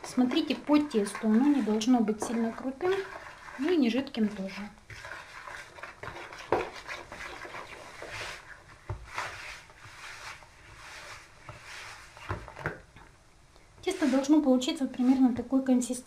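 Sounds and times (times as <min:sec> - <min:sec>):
dough squishing in bowl: 0:00.0 - 0:13.0, 0:13.8 - 0:15.6.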